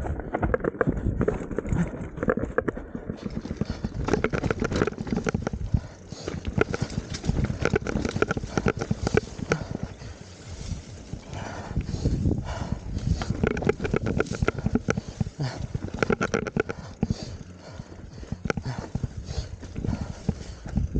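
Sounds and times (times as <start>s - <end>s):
low rumble: 0.0s - 20.9s
mountain bike rattling over dirt: 0.0s - 20.9s.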